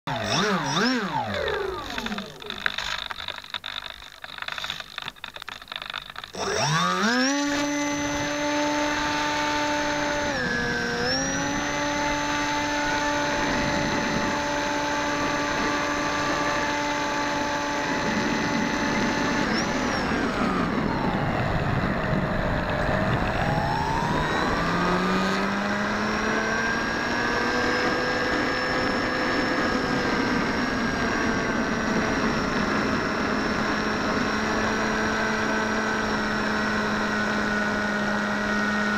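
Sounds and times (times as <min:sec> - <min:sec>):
electric motor propeller whine: 0:00.1 - 0:38.9.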